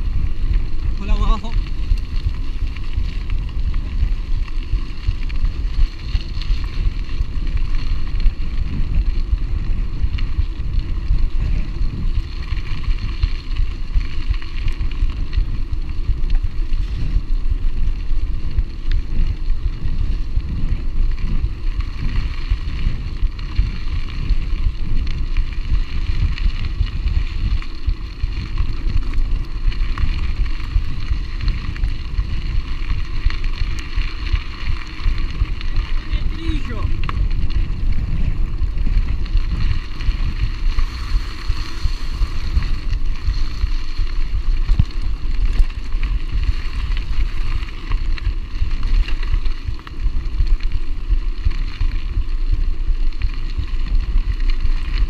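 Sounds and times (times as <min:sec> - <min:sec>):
bike tyres rolling on dirt: 0:00.0 - 0:55.0
wind buffeting microphone: 0:00.0 - 0:55.0.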